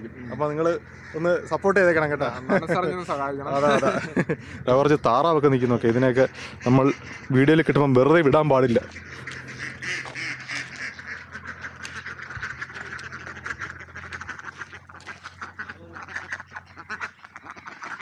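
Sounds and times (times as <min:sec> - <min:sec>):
ducks quacking: 0:00.0 - 0:18.0.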